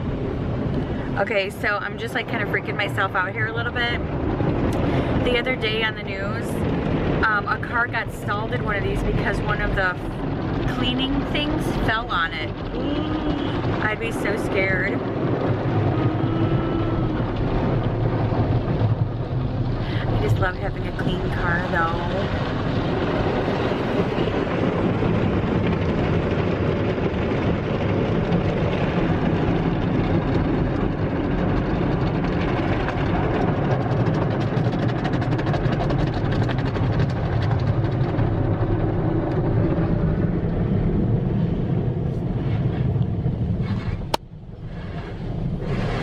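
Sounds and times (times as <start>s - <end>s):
car wash water spraying: 0.0s - 46.0s.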